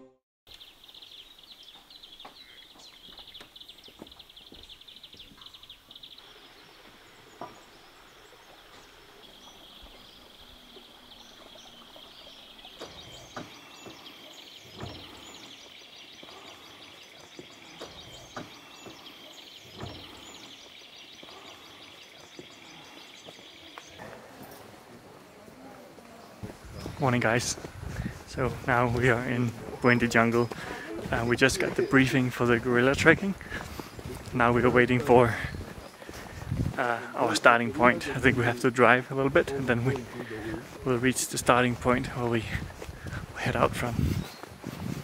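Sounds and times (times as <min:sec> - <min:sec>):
birds chirping: 0:00.5 - 0:45.0.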